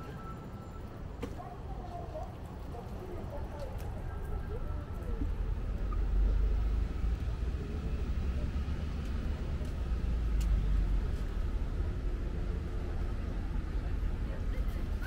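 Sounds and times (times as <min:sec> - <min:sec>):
faint voices: 0:00.0 - 0:15.0
street traffic rumble: 0:00.0 - 0:15.0.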